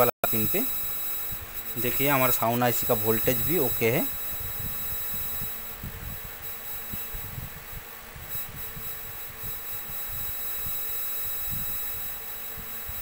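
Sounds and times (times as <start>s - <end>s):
television electrical buzz and whine: 0.0s - 13.0s.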